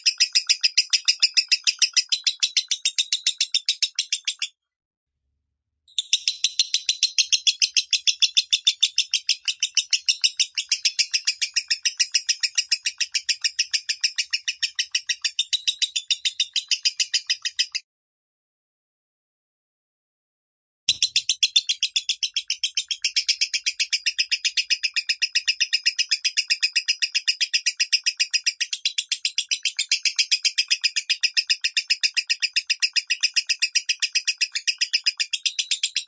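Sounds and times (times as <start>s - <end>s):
bird chirping high: 0.0s - 4.6s, 5.9s - 17.8s, 20.9s - 36.0s.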